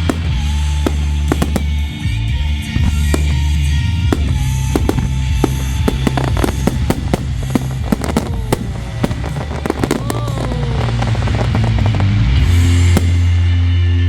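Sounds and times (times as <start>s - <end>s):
fireworks bangs and crackles: 0.0s - 13.8s
loud music with heavy bass: 0.0s - 14.0s.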